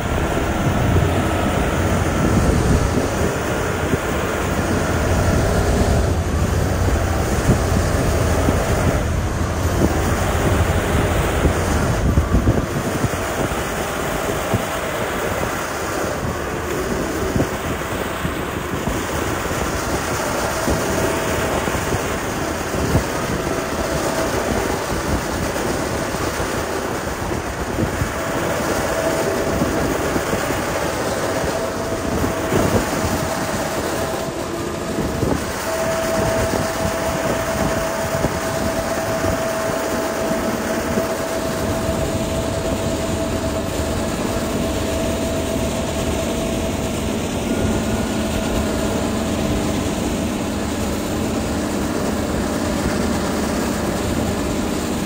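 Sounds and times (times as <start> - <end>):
heavy diesel machinery din: 0.0 - 55.0
steady whine: 0.0 - 55.0.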